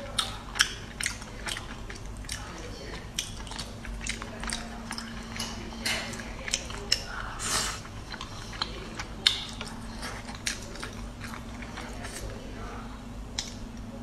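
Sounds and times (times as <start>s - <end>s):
person chewing: 0.1s - 12.4s.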